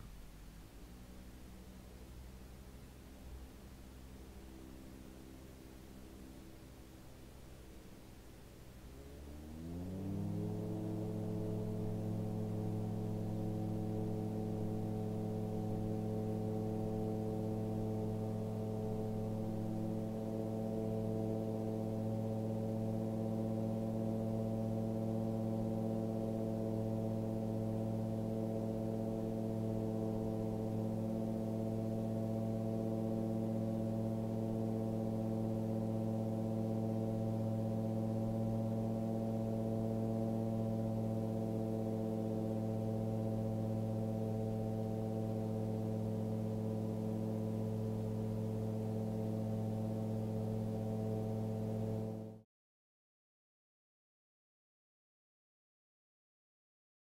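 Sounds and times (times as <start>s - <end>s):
light aircraft engine drone: 0.0s - 52.4s.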